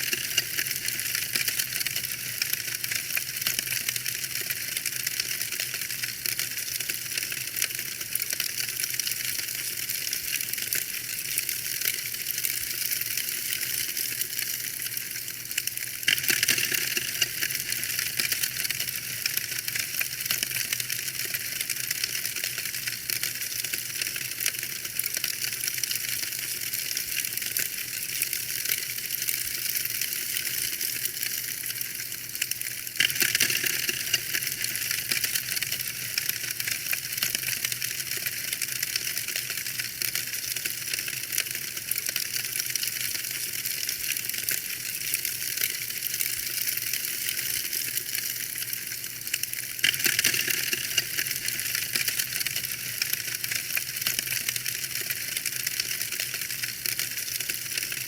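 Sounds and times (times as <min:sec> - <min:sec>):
soft hiss of fire: 0:00.0 - 0:58.0
wood fire crackling: 0:00.0 - 0:58.0.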